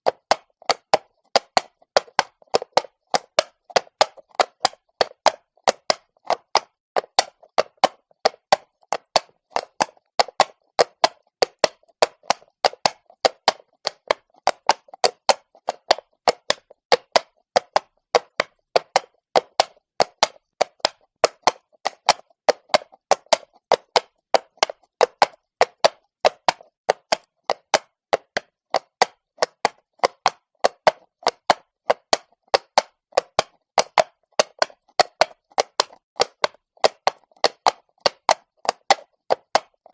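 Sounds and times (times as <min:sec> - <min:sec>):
horse hooves on cobbles: 0:00.0 - 0:39.9.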